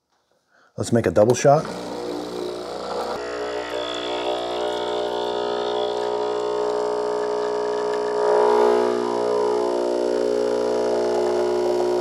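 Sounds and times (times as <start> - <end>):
espresso machine pump humming: 1.6 - 12.0.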